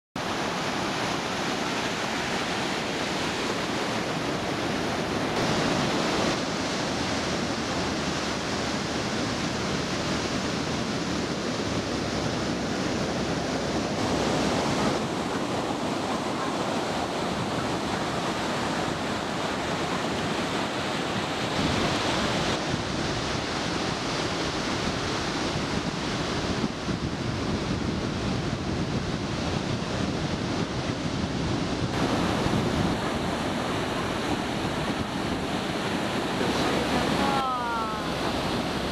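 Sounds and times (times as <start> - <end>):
waves breaking: 0.2 - 38.9
wind on microphone: 0.2 - 38.9.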